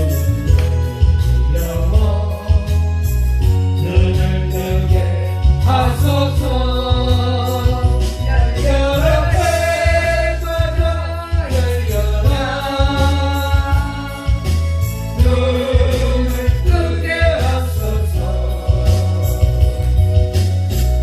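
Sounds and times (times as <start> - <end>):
gospel song backing track: 0.0 - 21.0
heavy bass beat: 0.0 - 21.0.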